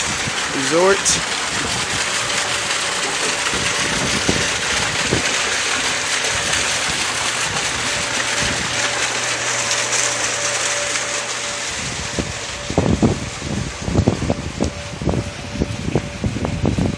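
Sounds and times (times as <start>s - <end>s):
water splashing into pool: 0.0s - 16.0s
low hum: 1.2s - 16.9s.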